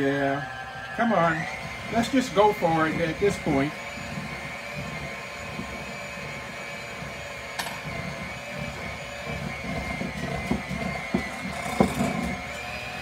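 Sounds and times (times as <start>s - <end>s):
electric hand mixer whine: 0.0s - 13.0s.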